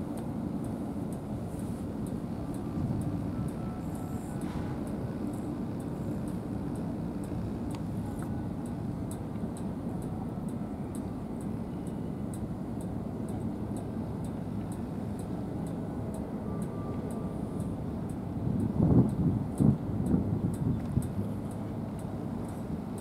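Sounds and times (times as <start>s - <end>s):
low outdoor rumble: 0.0s - 23.0s
faint high ticks: 0.2s - 23.0s.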